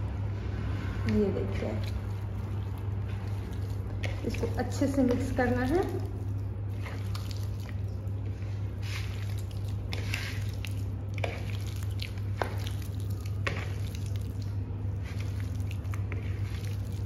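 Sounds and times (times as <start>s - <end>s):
wet squelching of kneaded meat: 0.1s - 17.0s.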